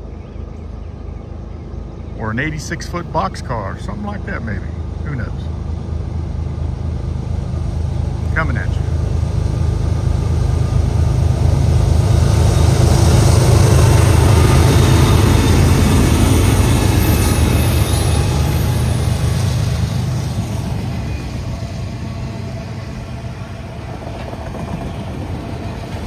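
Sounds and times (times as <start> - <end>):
freight train passing: 0.0 - 26.0.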